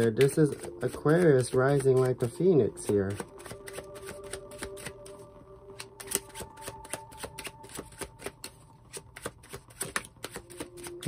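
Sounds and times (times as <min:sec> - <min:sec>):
cards being shuffled by hand: 0:00.0 - 0:11.0.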